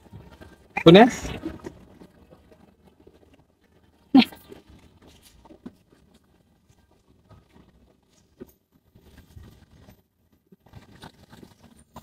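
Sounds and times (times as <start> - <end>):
low street rumble: 0.0 - 12.0.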